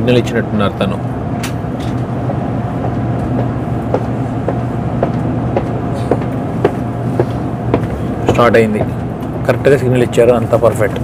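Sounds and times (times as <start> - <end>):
train carriage hum: 0.0 - 11.0.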